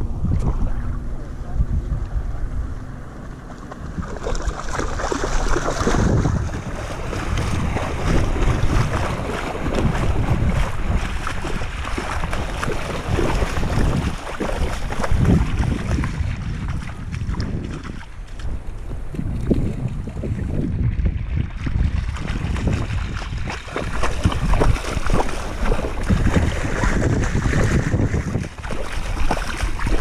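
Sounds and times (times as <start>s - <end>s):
wind on microphone: 0.0s - 30.0s
splashing in shallow water: 1.9s - 30.0s.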